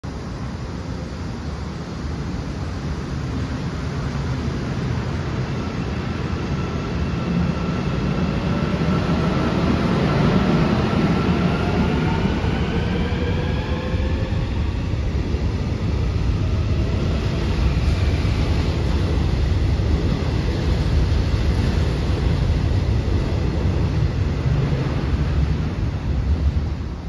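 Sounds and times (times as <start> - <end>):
train wheels rumbling on rails: 0.1 - 27.0.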